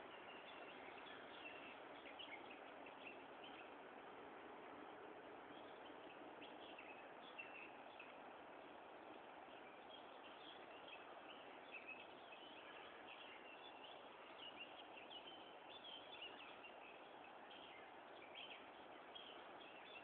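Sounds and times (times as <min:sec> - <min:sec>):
faint bird chirps: 0:00.0 - 0:03.8, 0:04.8 - 0:20.0
steady low hiss: 0:00.0 - 0:20.0.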